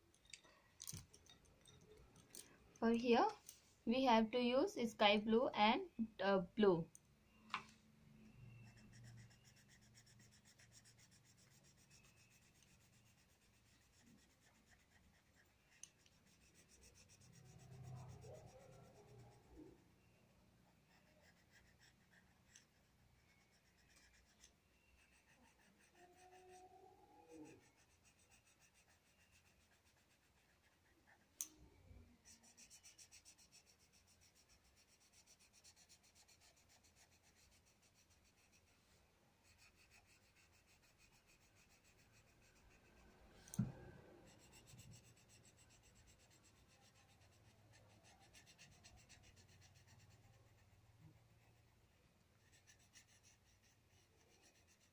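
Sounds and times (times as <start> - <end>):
pencil scratching on paper: 8.5 - 31.4, 32.2 - 54.9.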